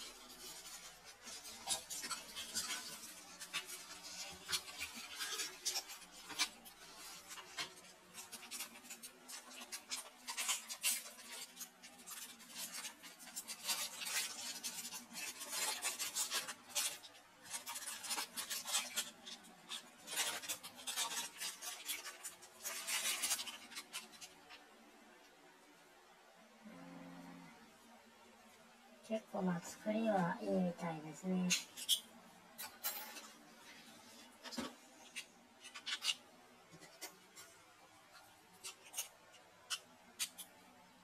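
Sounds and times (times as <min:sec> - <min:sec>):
plastic packaging crinkling: 0:00.0 - 0:24.8, 0:29.1 - 0:41.0.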